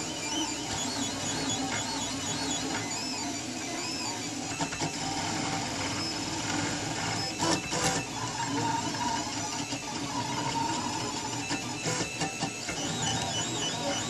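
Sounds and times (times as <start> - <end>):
printer stepper motors whining: 0.0 - 14.0.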